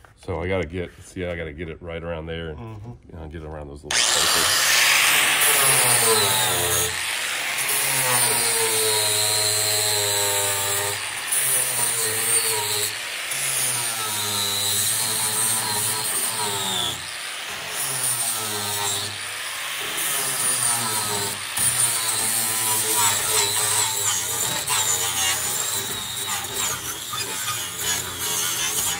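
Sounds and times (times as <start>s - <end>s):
angle grinder sanding aluminum: 3.9s - 28.9s.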